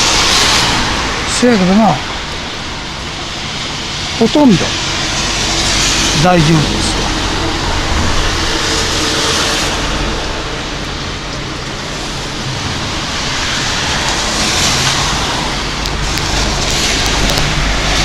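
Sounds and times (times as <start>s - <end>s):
rain: 0.0s - 18.0s
strong wind buffeting microphone: 0.0s - 18.0s.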